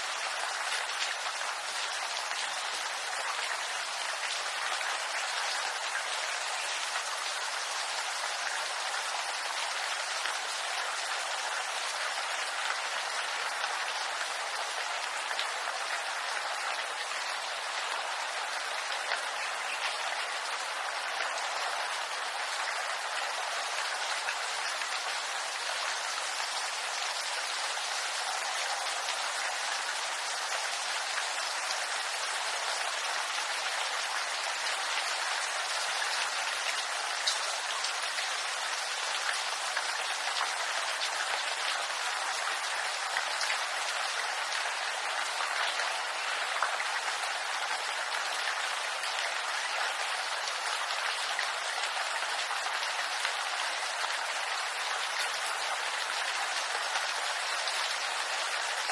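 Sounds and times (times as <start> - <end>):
rain on bamboo leaves: 0.0 - 58.9.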